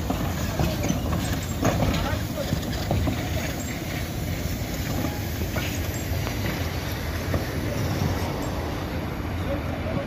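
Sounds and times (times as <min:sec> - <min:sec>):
steam locomotive rumbling: 0:00.0 - 0:10.0.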